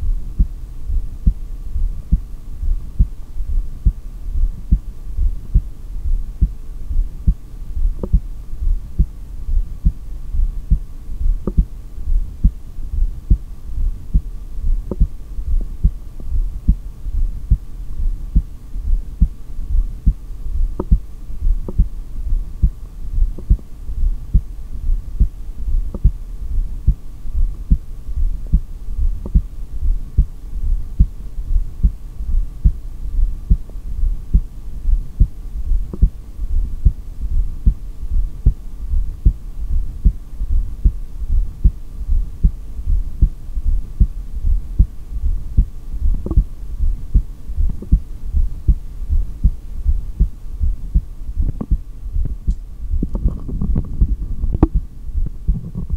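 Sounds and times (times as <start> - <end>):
faint steady hum: 0.0 - 55.9
heartbeat through stethoscope: 0.0 - 55.9.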